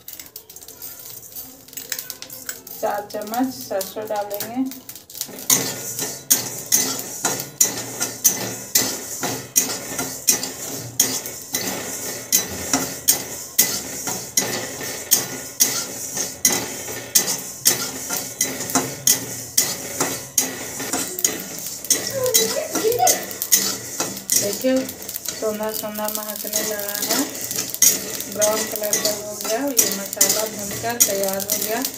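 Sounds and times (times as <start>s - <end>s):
metal spatula scraping a metal pan: 0.0s - 31.9s
seeds rustling in a pan: 0.0s - 31.9s.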